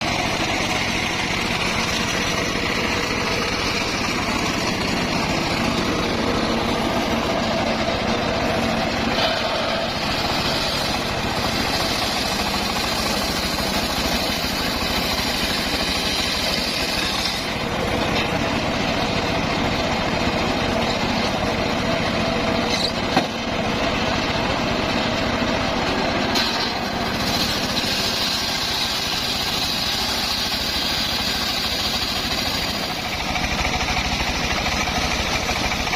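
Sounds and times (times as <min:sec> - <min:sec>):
circular sawmill cutting log: 0:00.0 - 0:35.9.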